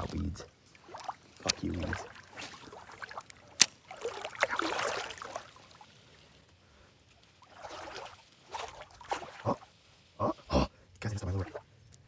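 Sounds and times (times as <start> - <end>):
water splashing in a creek: 0.0 - 10.2.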